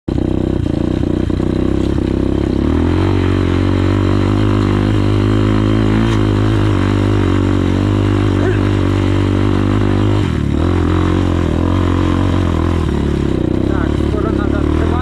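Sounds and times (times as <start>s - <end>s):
engine clatter: 0.1s - 15.0s
motorcycle engine under load: 0.1s - 15.0s.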